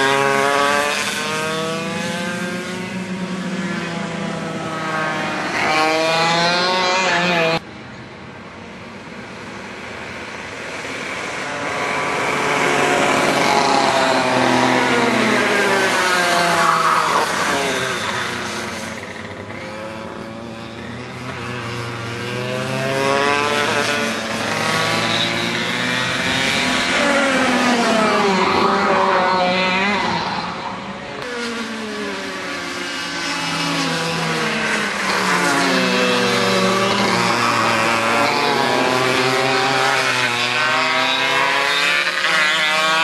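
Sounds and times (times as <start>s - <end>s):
kart engines racing past: 0.0s - 43.0s.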